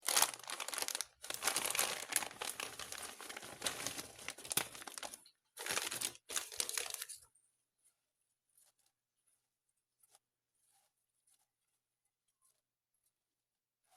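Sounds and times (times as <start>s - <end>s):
crinkling and rustling: 0.0s - 13.2s.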